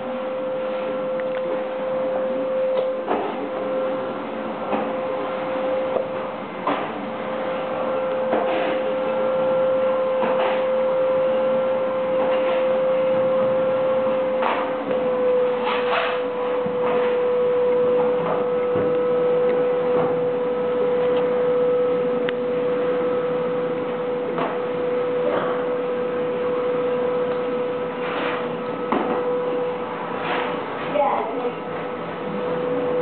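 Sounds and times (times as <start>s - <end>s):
vacuum cleaner motor humming: 0.0s - 33.0s.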